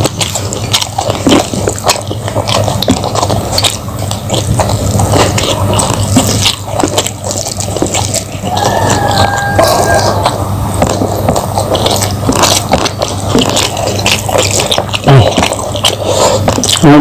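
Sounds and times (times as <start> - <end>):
chewing with wet crunches: 0.0 - 17.0.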